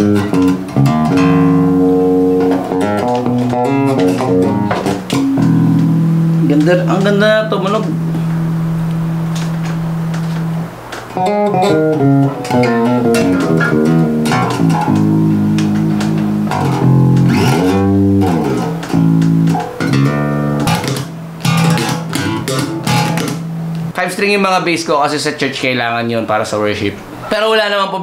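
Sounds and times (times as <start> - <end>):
bass guitar plucked notes: 0.0 - 24.0.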